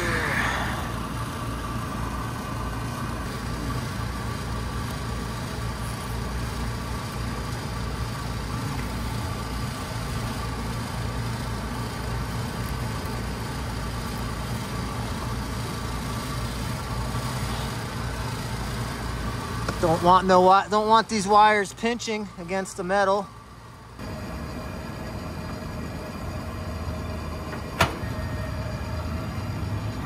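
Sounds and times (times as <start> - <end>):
air-conditioning machinery hum: 0.0 - 30.0.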